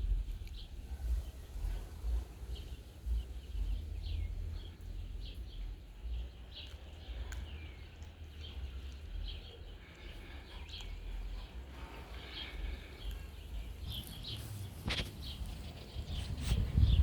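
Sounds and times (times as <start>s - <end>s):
low uneven rumble: 0.0s - 17.0s
small birds chirping: 0.0s - 17.0s.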